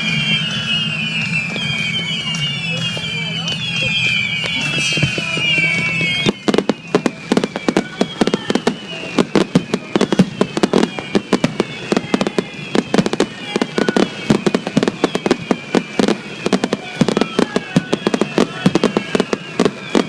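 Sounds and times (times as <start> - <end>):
fireworks bangs and crackles: 0.0 - 20.0
fireworks whistles falling in pitch: 0.0 - 20.0.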